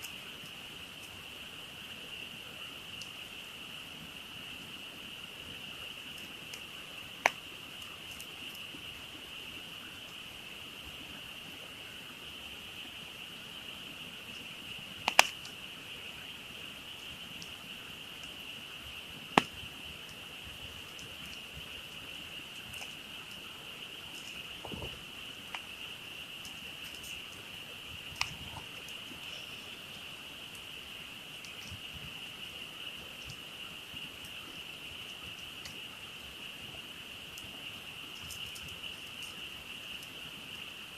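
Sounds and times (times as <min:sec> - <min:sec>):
campfire wood popping: 0:00.0 - 0:03.4, 0:04.1 - 0:11.5, 0:13.0 - 0:40.6
frog chorus: 0:00.0 - 0:40.9.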